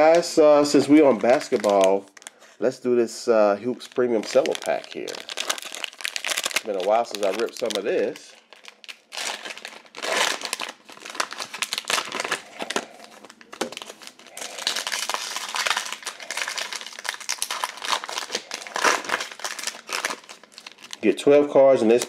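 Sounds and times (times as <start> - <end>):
cellophane wrapper crinkling: 0.0 - 2.6, 3.6 - 22.0.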